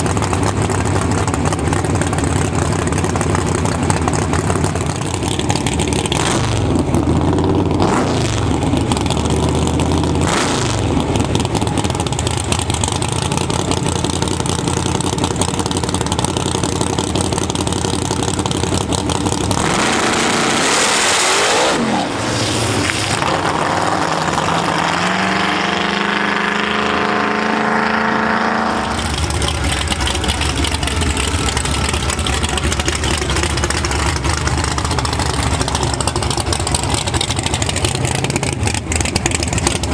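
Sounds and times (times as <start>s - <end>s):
engine accelerating hard: 0.0s - 39.9s
engines rumbling: 0.0s - 39.9s.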